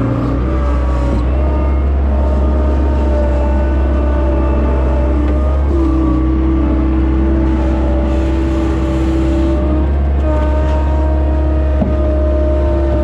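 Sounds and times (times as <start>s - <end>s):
mechanical whine: 0.0s - 13.0s
skid steer engine running: 0.0s - 13.0s.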